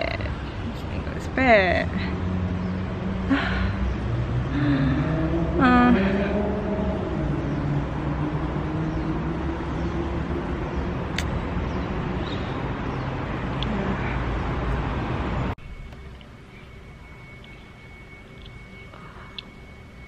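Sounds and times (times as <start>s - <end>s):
road traffic noise: 0.0s - 20.0s
vehicle engine humming: 0.0s - 20.0s.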